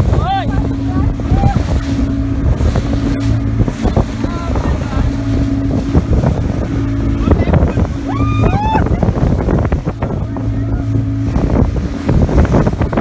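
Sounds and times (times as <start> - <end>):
motorboat engine running: 0.0 - 13.0
water splashing against hull: 0.0 - 13.0
wind buffeting microphone: 0.0 - 13.0.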